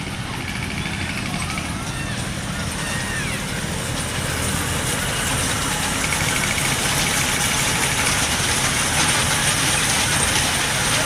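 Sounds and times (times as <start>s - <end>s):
ride train engine running: 0.0s - 11.0s.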